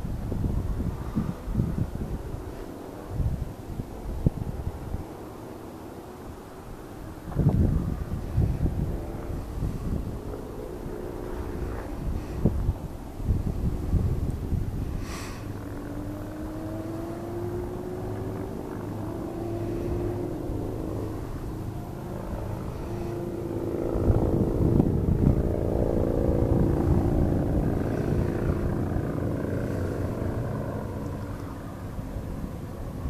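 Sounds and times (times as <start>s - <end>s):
wind on microphone: 0.0s - 5.3s, 6.4s - 33.0s
motor hum: 5.8s - 33.0s.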